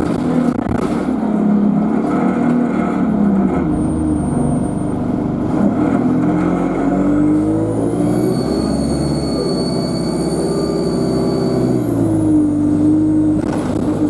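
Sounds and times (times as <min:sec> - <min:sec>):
bus engine accelerating: 0:00.0 - 0:14.0
turbocharger whine: 0:00.0 - 0:14.0.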